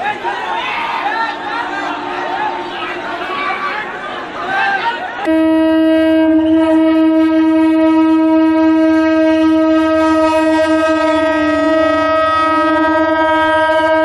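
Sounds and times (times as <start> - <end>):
train horn blast: 1.0 - 4.3, 5.2 - 14.0.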